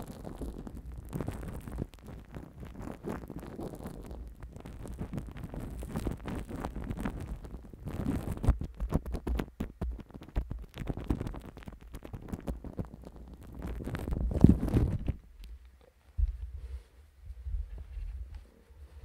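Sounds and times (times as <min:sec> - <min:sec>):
crinkling plastic crackles: 0:00.0 - 0:16.6
fingertips rubbing on plastic-wrapped microphone: 0:00.0 - 0:19.0.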